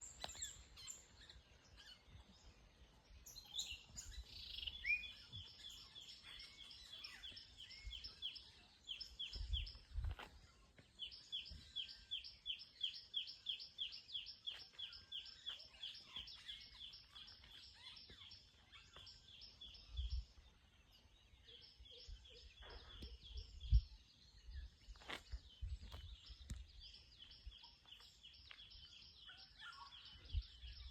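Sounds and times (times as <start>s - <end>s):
bird chirping: 0.0s - 30.9s.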